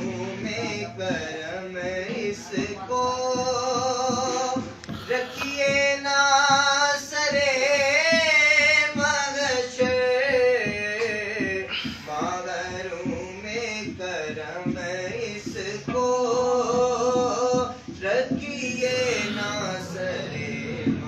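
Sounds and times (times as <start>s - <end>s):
man singing devotional chant: 0.0s - 21.0s.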